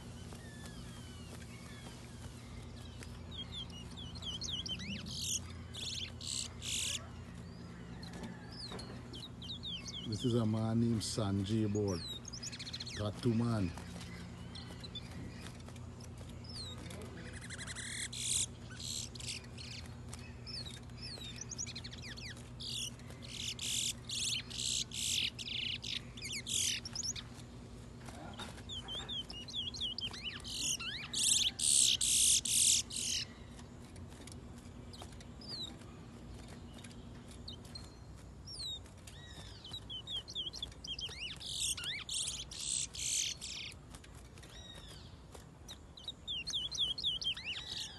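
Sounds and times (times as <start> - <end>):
songbird singing trills: 0.0 - 47.9.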